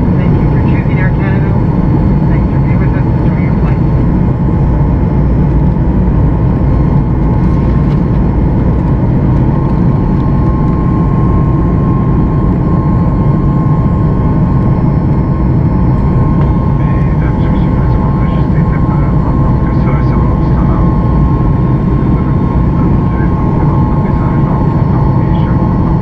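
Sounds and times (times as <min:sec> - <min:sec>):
jet engine noise in cabin: 0:00.0 - 0:26.0.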